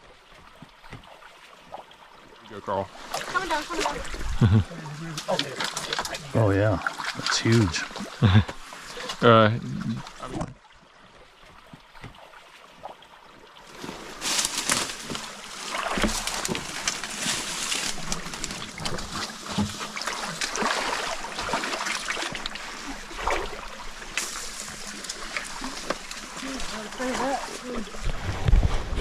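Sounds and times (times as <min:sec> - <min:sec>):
water splashing in a stream: 0:00.0 - 0:29.0.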